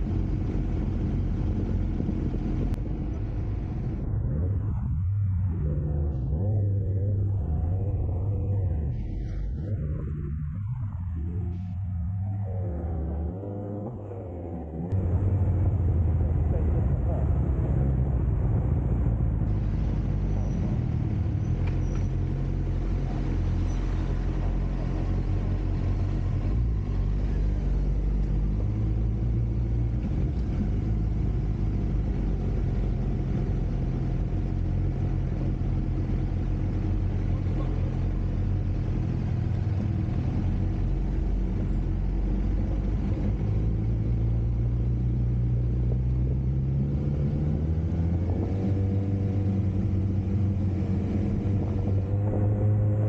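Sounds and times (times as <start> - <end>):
motorcycle engine humming: 0.0 - 53.0.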